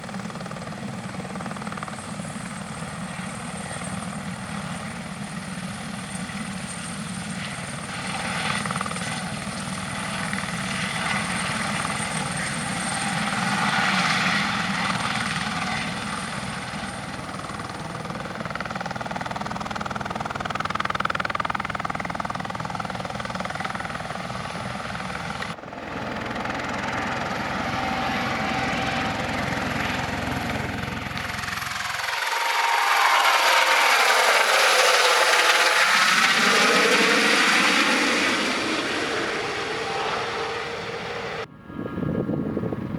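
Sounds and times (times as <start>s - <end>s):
helicopter rotor and turbine: 0.0s - 42.9s.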